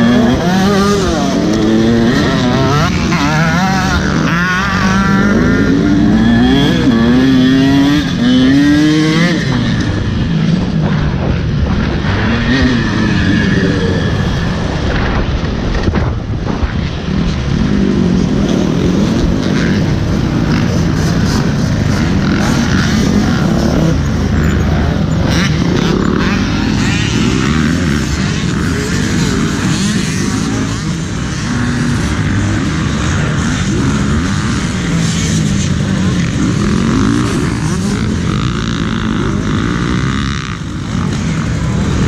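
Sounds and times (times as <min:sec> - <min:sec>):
dirt bike engine revving: 0:00.0 - 0:15.7, 0:16.9 - 0:42.0.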